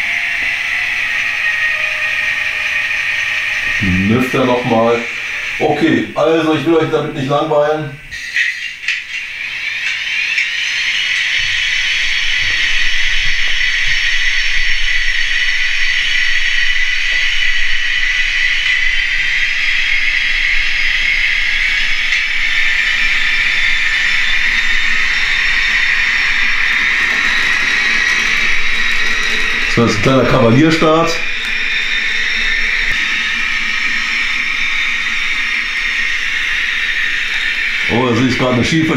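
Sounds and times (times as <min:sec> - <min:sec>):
model locomotive whine from speaker: 0:00.0 - 0:38.9.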